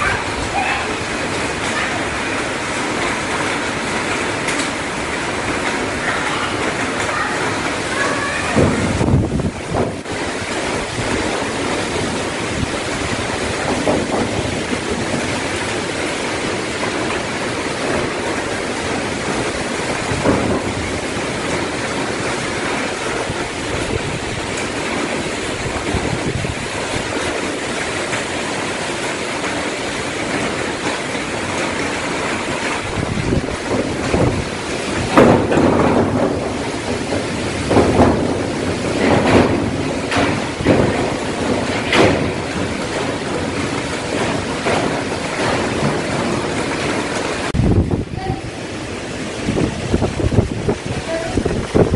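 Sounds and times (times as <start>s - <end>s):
driving rain: 0.0s - 51.9s
strong wind blowing through trees: 0.0s - 51.9s.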